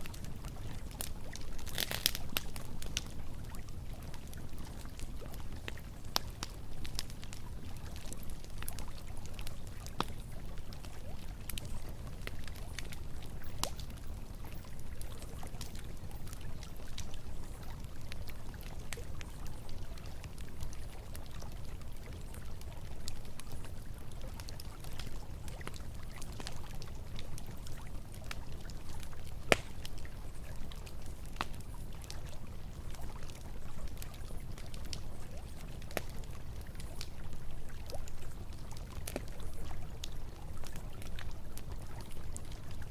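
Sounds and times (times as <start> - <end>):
campfire crackling: 0.0 - 42.9.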